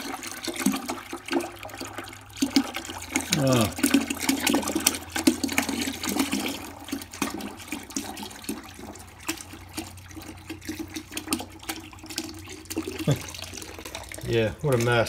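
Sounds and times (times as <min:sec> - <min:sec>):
liquid pouring into bucket: 0:00.0 - 0:15.0.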